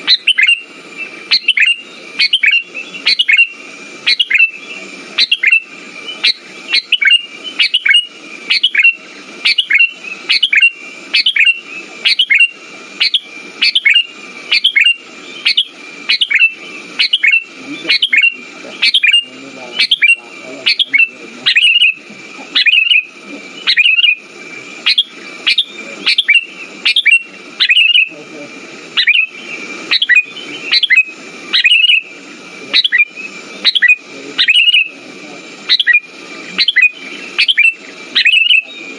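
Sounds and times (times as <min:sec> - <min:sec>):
bulbul chirping: 0:00.0 - 0:28.2, 0:28.9 - 0:35.0, 0:35.7 - 0:38.8.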